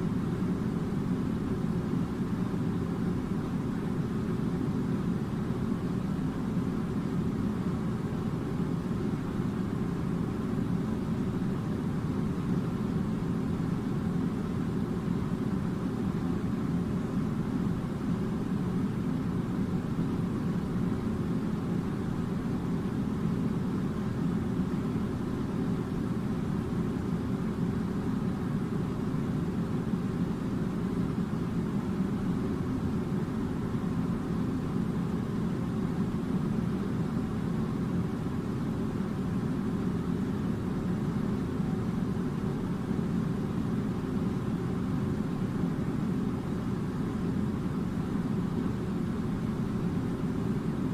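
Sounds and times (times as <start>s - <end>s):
air conditioner running: 0.0s - 50.9s.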